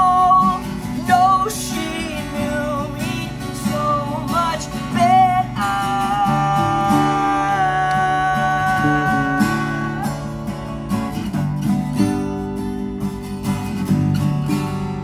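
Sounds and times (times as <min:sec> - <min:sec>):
acoustic guitars strumming: 0:00.0 - 0:15.0.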